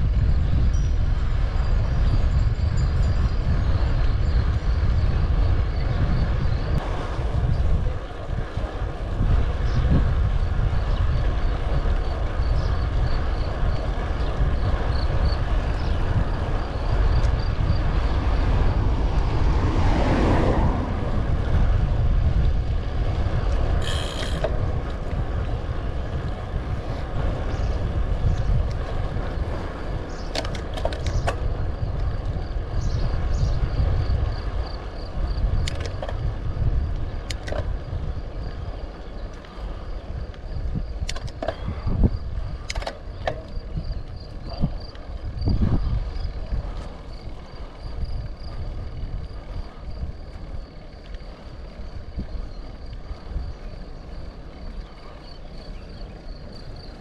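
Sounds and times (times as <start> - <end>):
wind rumbling over microphone: 0.0 - 57.0.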